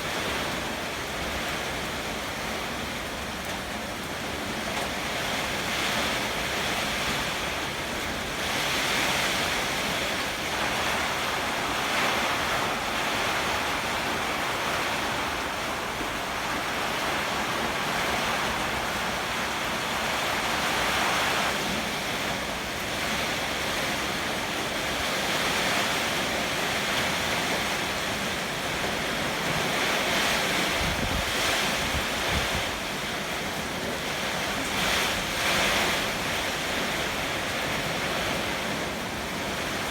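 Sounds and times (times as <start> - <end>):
heavy rain and wind: 0.0 - 39.9.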